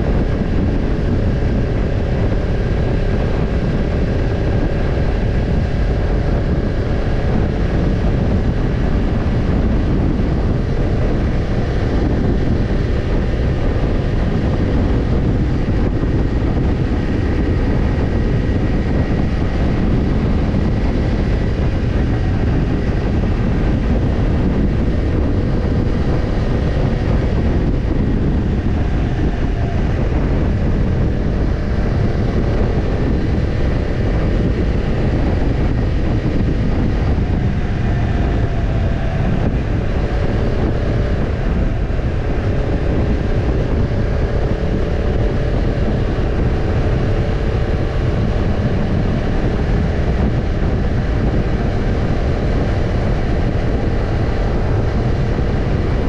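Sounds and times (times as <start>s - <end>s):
motorcycle engine exhaust note: 0.0s - 56.0s.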